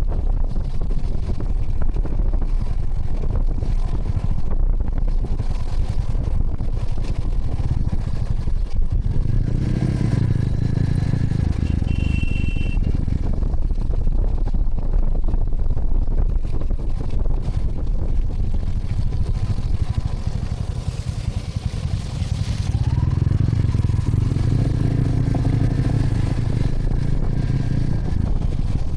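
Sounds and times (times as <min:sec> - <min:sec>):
motorcycle engine running: 0:00.0 - 0:28.9
wind rumbling on microphone: 0:00.0 - 0:28.9.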